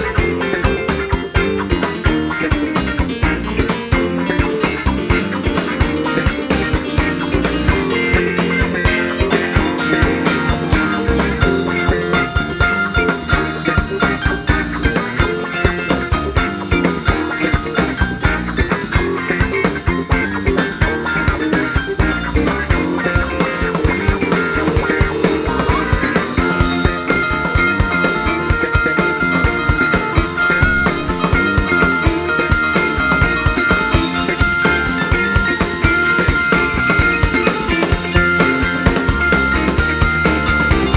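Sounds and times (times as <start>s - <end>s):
lead guitar held high notes: 0.0s - 40.9s
rock band playing live: 0.0s - 40.9s.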